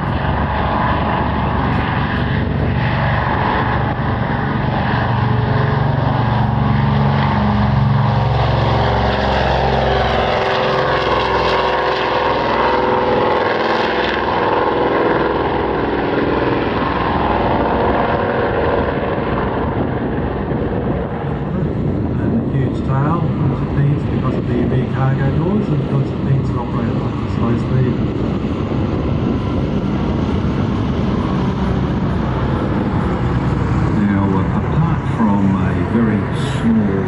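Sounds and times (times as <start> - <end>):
propeller aircraft engines running: 0.0 - 37.0.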